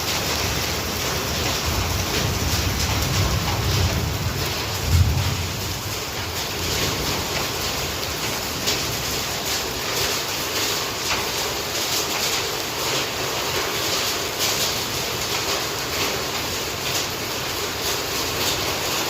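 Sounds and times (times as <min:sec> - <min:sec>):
hail hitting: 0:00.0 - 0:19.0
heavy rain: 0:00.0 - 0:19.0.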